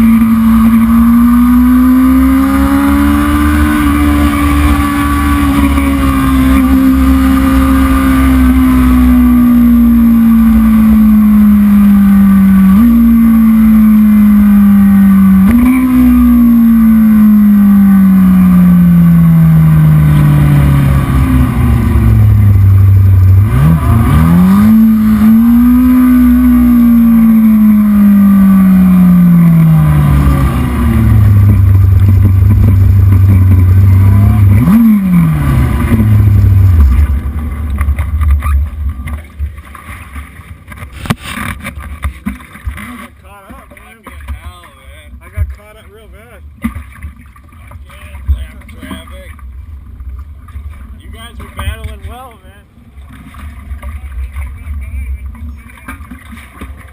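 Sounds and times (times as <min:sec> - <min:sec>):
racing motorcycle engine running: 0:00.0 - 0:56.9.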